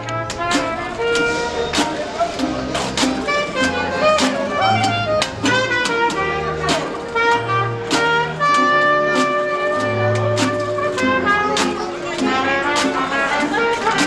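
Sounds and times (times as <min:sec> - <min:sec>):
banjo strumming: 0:00.0 - 0:14.0
clarinet melody: 0:00.0 - 0:14.0
plucked upright bass: 0:00.0 - 0:14.0
trumpet melody: 0:00.0 - 0:14.0.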